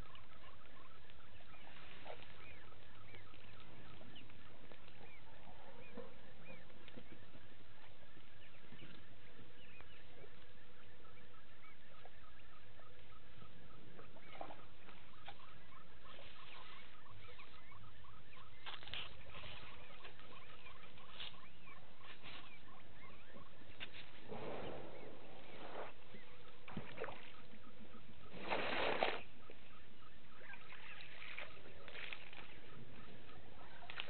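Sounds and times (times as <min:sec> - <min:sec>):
low steady rumble: 0:00.0 - 0:28.6.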